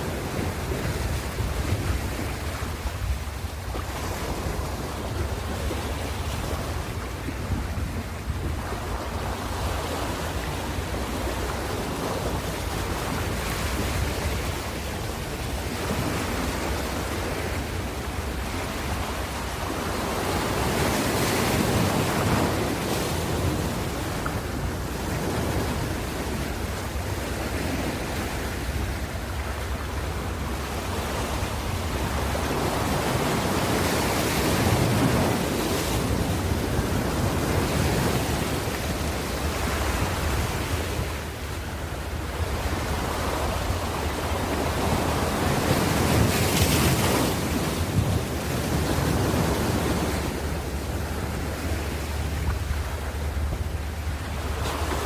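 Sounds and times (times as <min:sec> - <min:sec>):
ocean waves breaking: 0:00.0 - 0:55.0
wind on microphone: 0:00.0 - 0:55.0.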